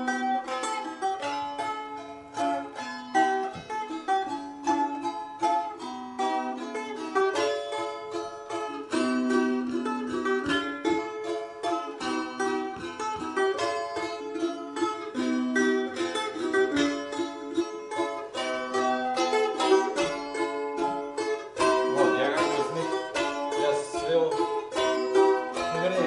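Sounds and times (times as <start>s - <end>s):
balalaikas strumming and plucking: 0.0s - 26.0s.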